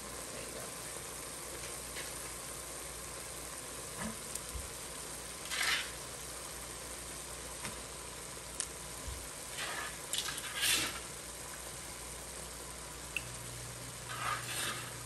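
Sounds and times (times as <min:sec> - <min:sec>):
onion sizzling onto hot meat: 0:00.0 - 0:15.0
sausage sizzling in a pot: 0:00.0 - 0:15.0.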